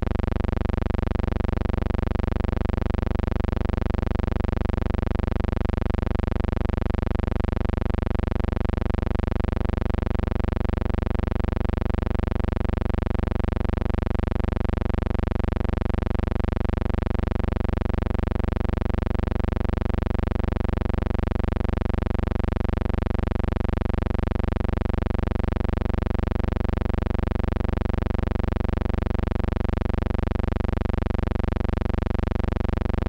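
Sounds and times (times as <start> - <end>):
steady buzzing hum: 0.0 - 33.0.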